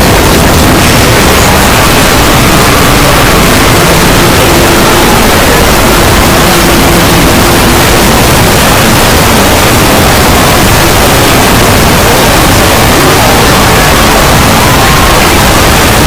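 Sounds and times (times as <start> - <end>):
faint steady tones: 0.0 - 16.0
loud distorted noise: 0.0 - 16.0.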